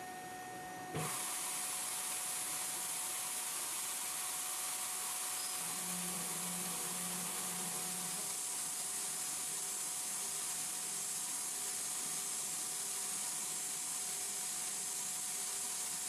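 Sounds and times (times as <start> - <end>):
milling machine cutting metal: 1.0 - 16.0.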